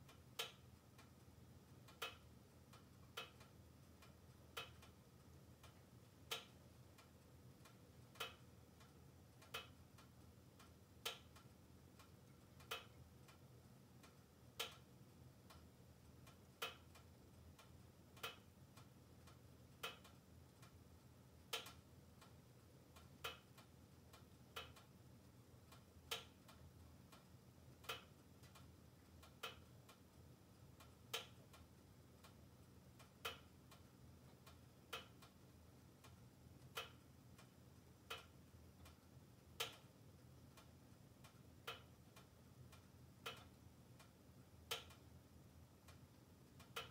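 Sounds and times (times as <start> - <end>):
wood stove ticking: 0.0 - 46.9.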